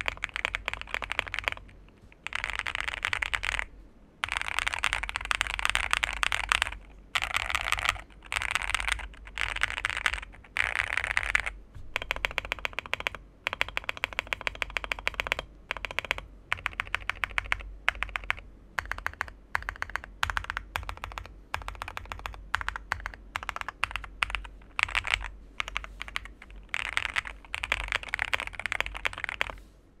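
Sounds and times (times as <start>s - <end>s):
mechanical keyboard typing: 0.0s - 29.6s.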